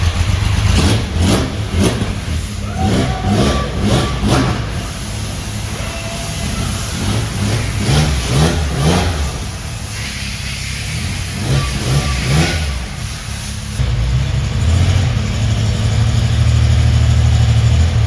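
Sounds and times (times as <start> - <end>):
car engine idling: 0.0 - 18.0
engine revving: 0.0 - 18.0.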